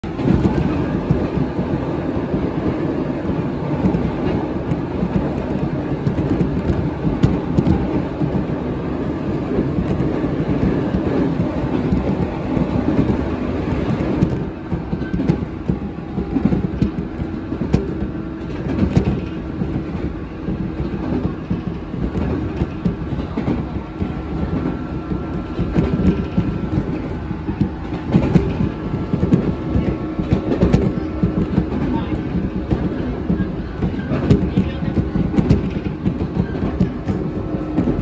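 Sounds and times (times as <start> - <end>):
train wheels rumbling on rail: 0.0 - 38.0
wheels clacking over rail joints: 0.0 - 38.0.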